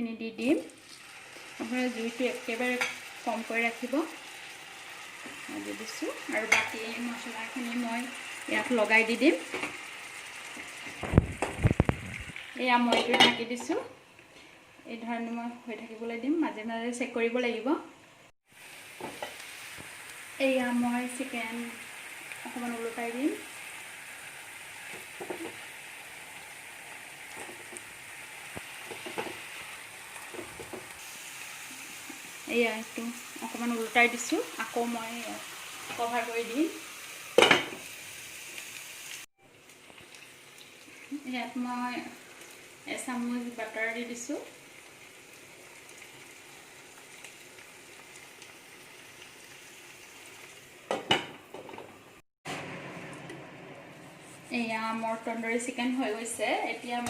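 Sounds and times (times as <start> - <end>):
chicken sizzling in frying pan: 0.5 - 14.8, 18.5 - 53.0.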